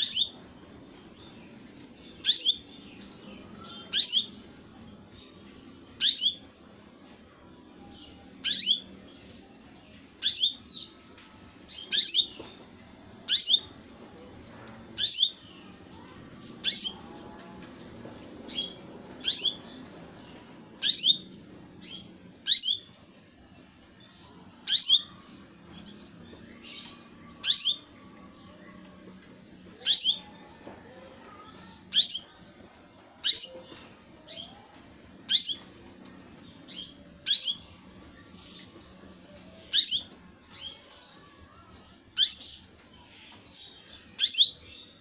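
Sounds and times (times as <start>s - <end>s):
canary chirping: 0.0s - 6.8s, 7.8s - 9.5s, 10.2s - 11.0s, 11.7s - 13.9s, 15.0s - 17.8s, 18.4s - 23.0s, 24.0s - 28.8s, 29.7s - 32.6s, 33.2s - 45.0s.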